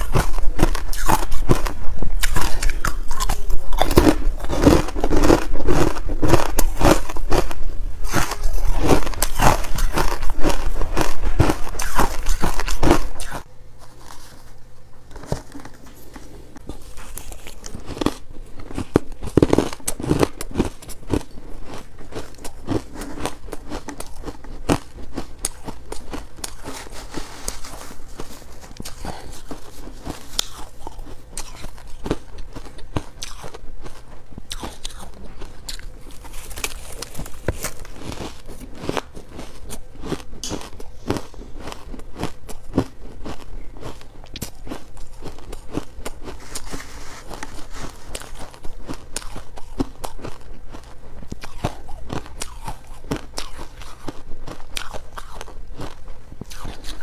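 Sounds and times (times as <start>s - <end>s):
crunching ice: 0.0s - 13.4s, 15.2s - 57.0s.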